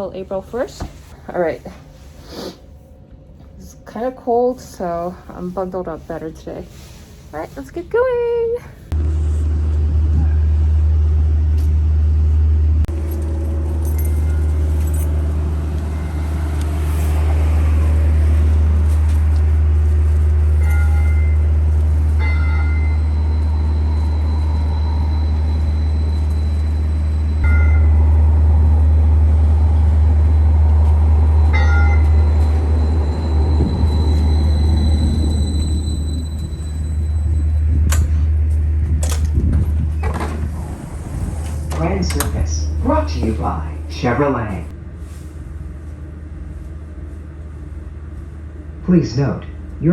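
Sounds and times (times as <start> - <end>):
streetcar rumbling: 0.0 - 49.9.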